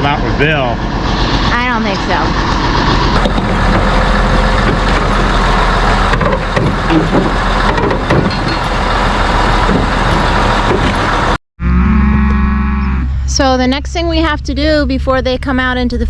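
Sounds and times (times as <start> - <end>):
diesel machinery running: 0.0 - 16.0.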